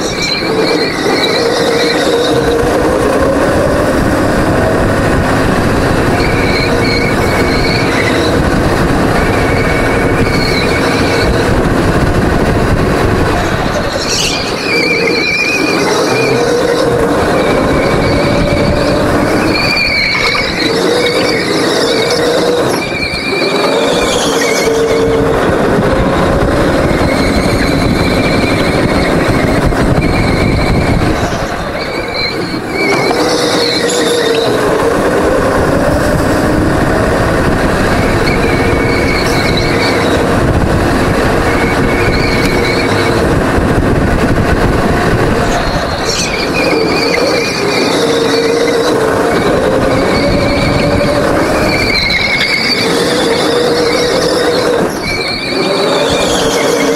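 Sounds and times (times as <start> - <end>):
tyres squealing: 0.0 - 4.9, 5.7 - 11.6, 13.4 - 36.9, 37.8 - 40.5, 41.4 - 43.4, 45.4 - 56.9
go-kart engine running hard: 0.0 - 56.9.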